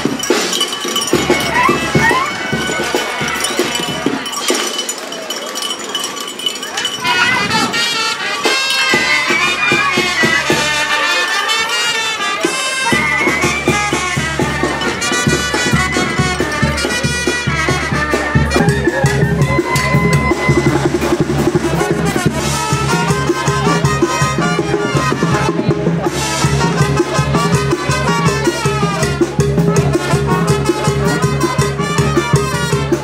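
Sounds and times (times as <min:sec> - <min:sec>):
bass and drum beat: 0:00.0 - 0:04.7, 0:08.8 - 0:11.0, 0:12.9 - 0:33.0
brass band playing: 0:00.0 - 0:04.7, 0:06.7 - 0:33.0.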